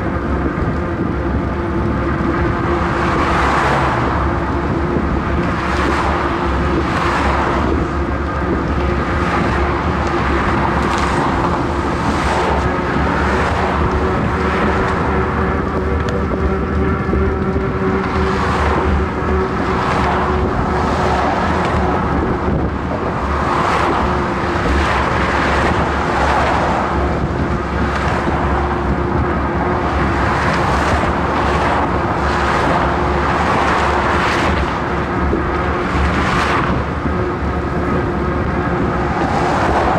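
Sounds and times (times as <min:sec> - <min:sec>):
cars passing: 0:00.0 - 0:39.9
wind rumble on microphone: 0:00.0 - 0:39.9.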